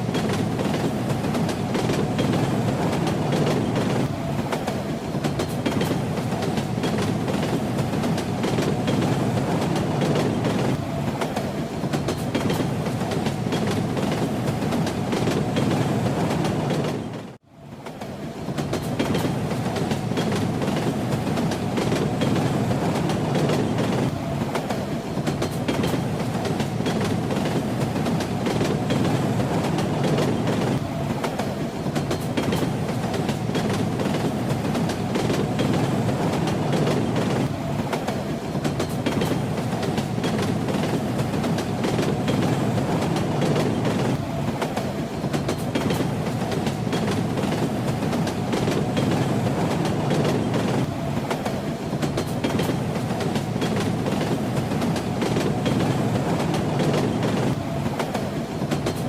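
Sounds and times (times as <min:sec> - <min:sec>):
train rumbling: 0:00.0 - 0:59.0
train wheels clattering on rails: 0:00.0 - 0:59.0.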